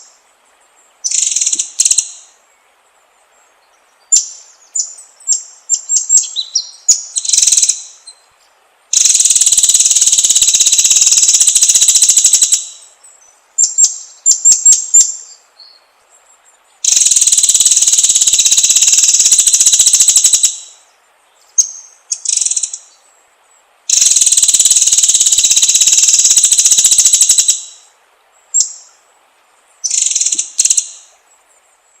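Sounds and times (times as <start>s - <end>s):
bird buzzy trills: 0.0s - 32.0s.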